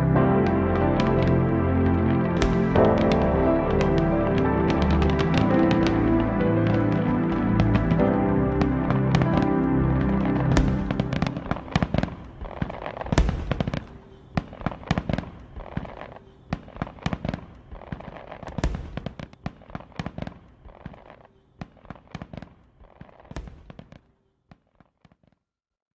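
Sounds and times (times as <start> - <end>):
fireworks bangs and crackles: 0.0 - 25.4.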